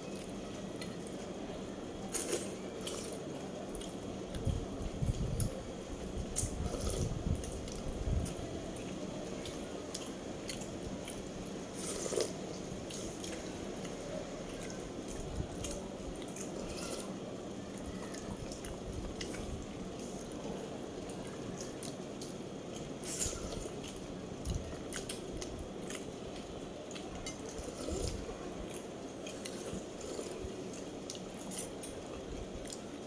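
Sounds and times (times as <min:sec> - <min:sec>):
wet chewing with clicks: 0:02.0 - 0:33.0.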